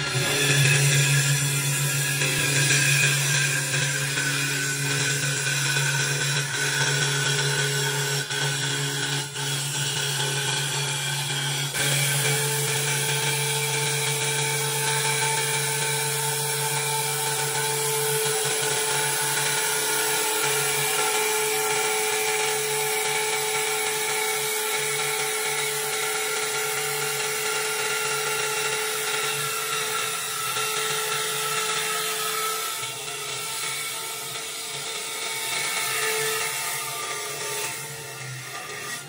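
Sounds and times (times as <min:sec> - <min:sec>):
high-pitched motor whine: 0:00.0 - 0:39.0.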